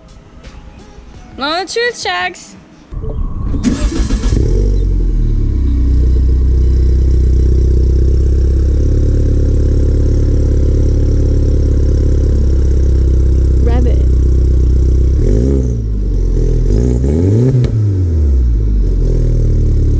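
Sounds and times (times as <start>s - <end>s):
car engine starting and idling: 3.3s - 19.9s.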